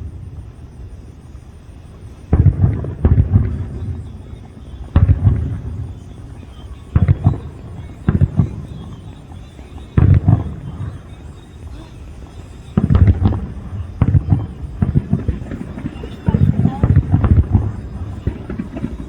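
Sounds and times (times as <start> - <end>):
fireworks shells booming: 0.0 - 19.0.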